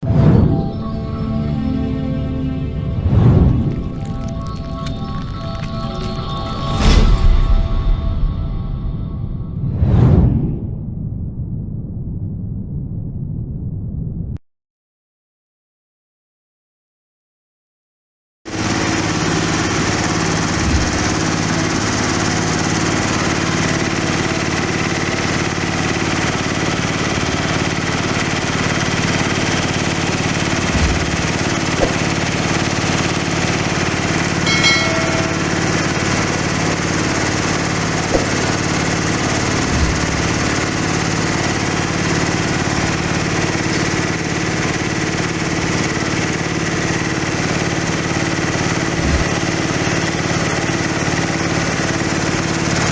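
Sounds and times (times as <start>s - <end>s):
grinding mill drone: 0.7s - 9.7s, 18.6s - 52.9s.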